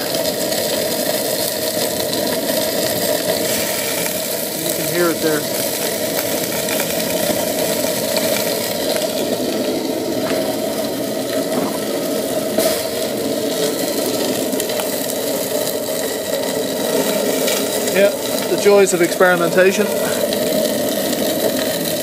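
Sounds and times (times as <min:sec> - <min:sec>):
oil burner rough rumble: 0:00.0 - 0:22.0.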